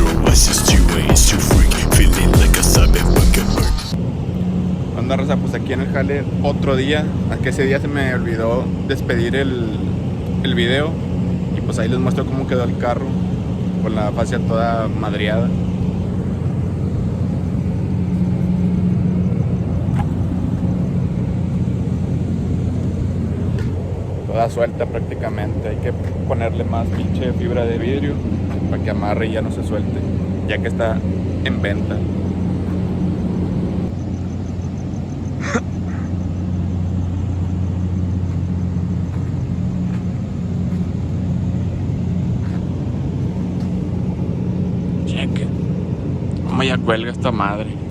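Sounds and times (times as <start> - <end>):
steady low rumble and hum: 0.0 - 47.9.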